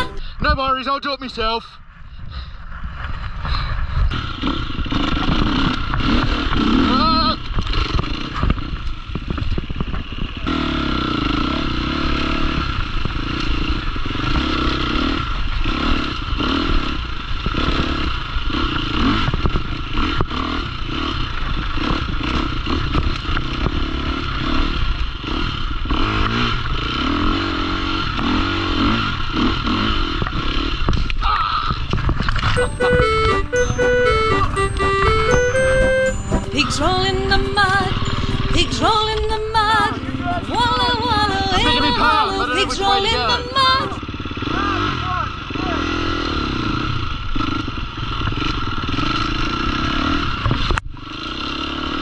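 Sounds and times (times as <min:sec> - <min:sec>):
dirt bike engine revving: 0:04.1 - 0:31.1, 0:31.9 - 0:52.0.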